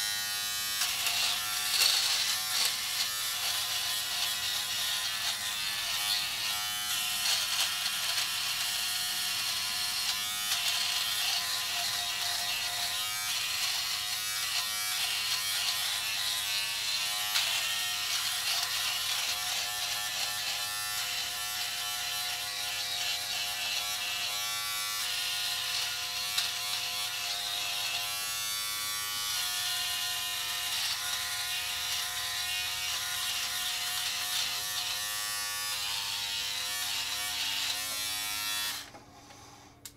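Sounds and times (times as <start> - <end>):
electric trimmer buzzing: 0.0 - 39.9.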